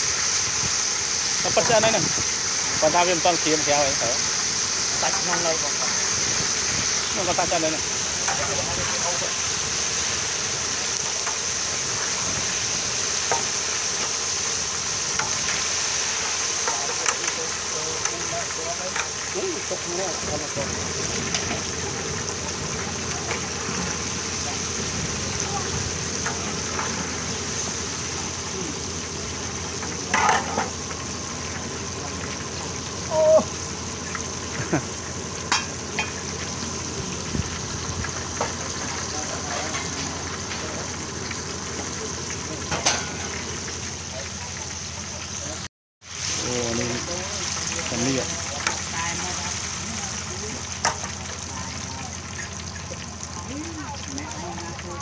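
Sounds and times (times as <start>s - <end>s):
food deep-frying in hot oil: 0.0s - 55.0s.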